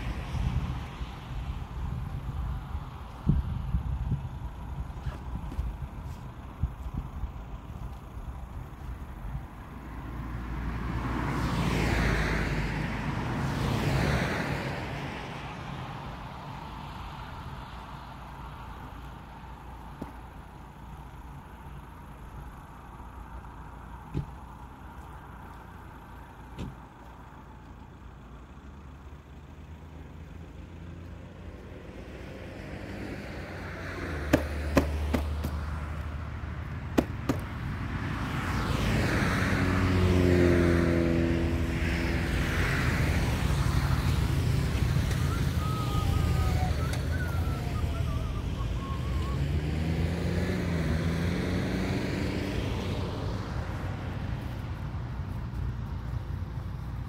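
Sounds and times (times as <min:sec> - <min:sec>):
vehicle engine: 0:00.0 - 0:57.0.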